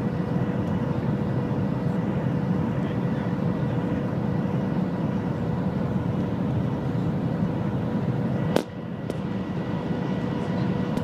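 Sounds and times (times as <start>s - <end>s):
low rushing train noise: 0.0s - 11.0s.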